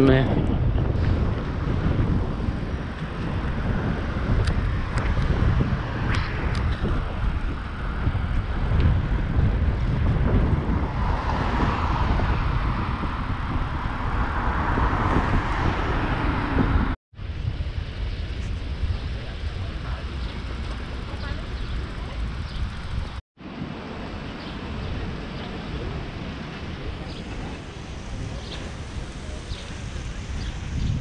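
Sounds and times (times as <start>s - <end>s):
passing road vehicles: 0.0s - 31.0s
wind rumbling on microphone: 0.0s - 31.0s.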